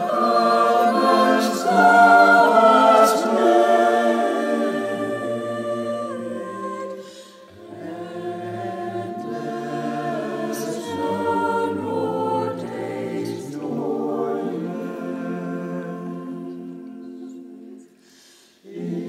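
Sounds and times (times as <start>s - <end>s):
church choir singing: 0.0s - 19.0s.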